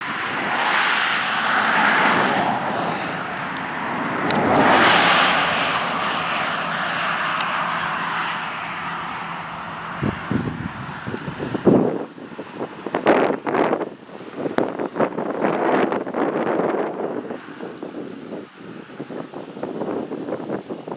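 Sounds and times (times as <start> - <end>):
passing motor traffic: 0.0 - 20.9.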